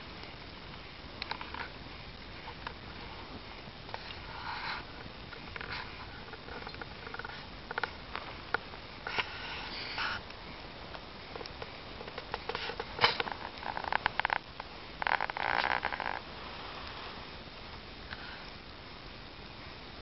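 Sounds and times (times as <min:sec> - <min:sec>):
bonfire crackling and popping: 0:00.0 - 0:20.0.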